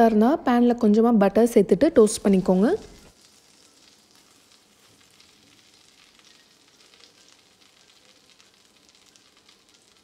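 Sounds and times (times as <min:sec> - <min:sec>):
butter sizzling in frying pan: 0:01.8 - 0:10.0.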